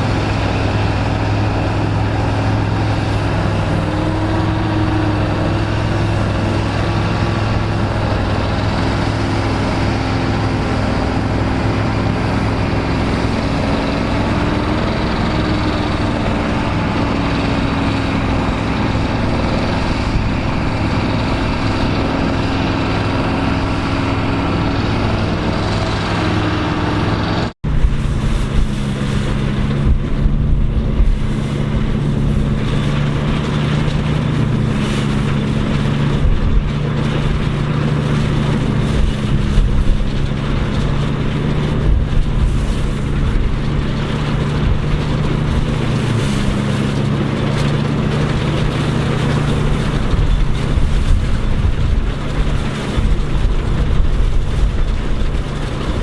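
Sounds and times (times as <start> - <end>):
deeper engine with knocks: 0.0 - 56.0
farm machinery engines running: 0.0 - 56.0.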